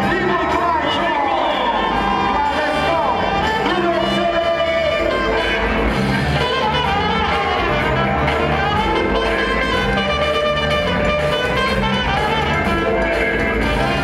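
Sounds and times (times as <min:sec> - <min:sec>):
loud music with brass and beat: 0:00.0 - 0:14.0.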